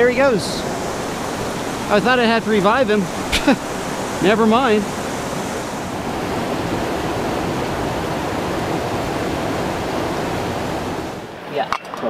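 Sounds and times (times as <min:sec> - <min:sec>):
river rapids rushing: 0:00.0 - 0:11.6.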